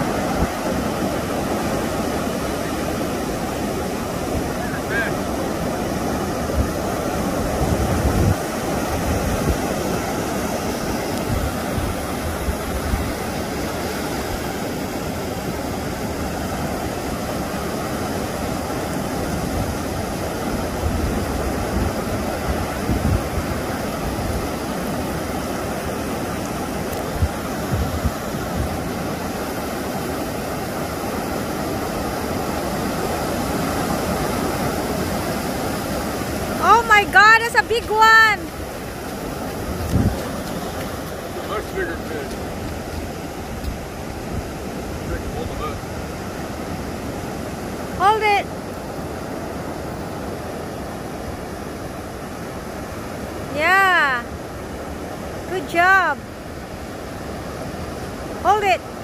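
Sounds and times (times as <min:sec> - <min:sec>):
wind rumbling on microphone: 0:00.0 - 0:48.0
ocean surf breaking: 0:00.0 - 0:59.0.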